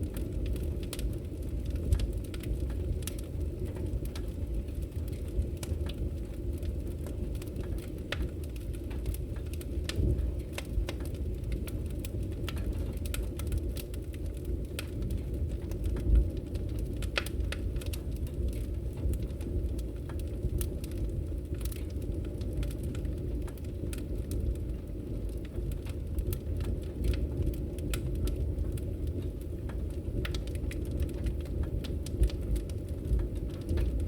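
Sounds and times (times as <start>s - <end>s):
firewood crackling and popping: 0.0s - 34.0s
low rumble of fire: 0.0s - 34.0s.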